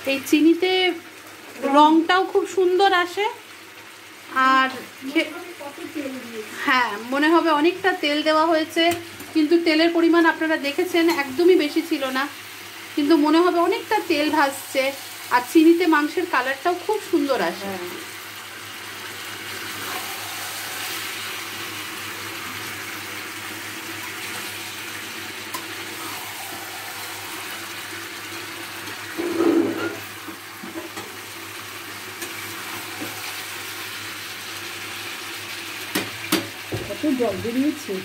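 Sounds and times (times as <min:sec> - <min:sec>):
curry sizzling and bubbling in a pan: 0:00.0 - 0:38.0.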